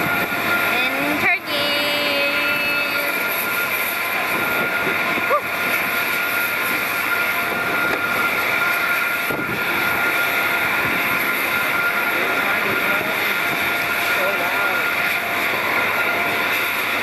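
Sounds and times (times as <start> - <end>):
high steady jet whine: 0.0 - 17.0
jet aircraft rushing: 0.0 - 17.0.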